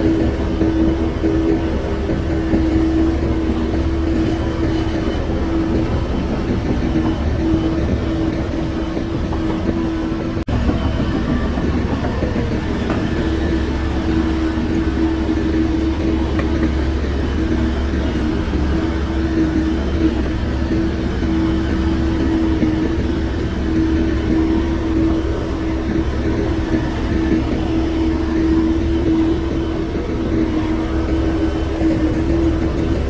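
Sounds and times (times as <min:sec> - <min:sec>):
bulldozer diesel engine rumbling: 0:00.0 - 0:33.0
engine whine: 0:00.0 - 0:33.0.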